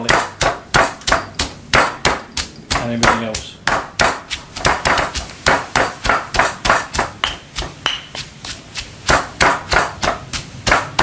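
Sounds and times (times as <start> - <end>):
stone pestle pounding in mortar: 0.0 - 11.0.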